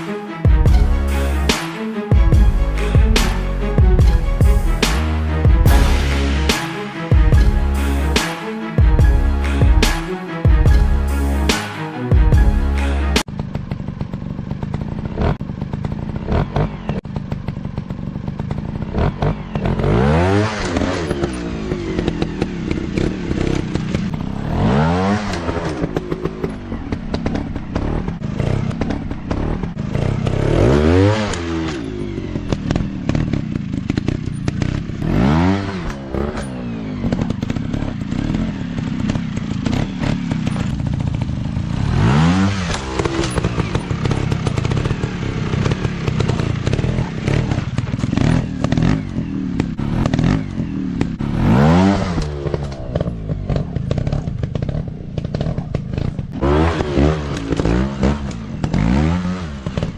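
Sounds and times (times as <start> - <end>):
dirt bike engine revving: 2.2 - 59.9.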